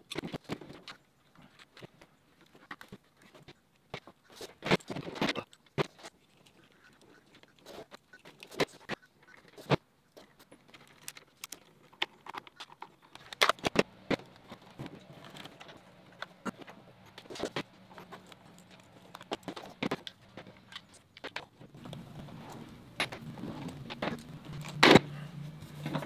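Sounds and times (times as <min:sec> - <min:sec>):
plastic parts clicking and knocking: 0:00.0 - 0:26.0.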